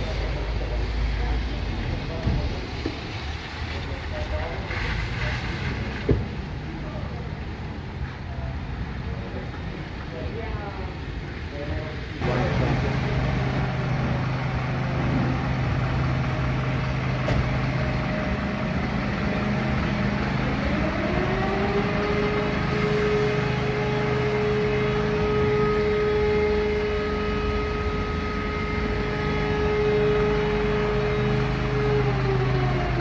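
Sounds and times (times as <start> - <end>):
diesel engine running: 0.0 - 10.1, 12.1 - 33.0.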